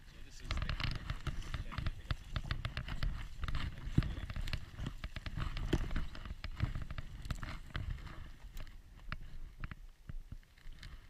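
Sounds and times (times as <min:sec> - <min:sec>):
footsteps crunching through dry grass: 0:00.0 - 0:11.0.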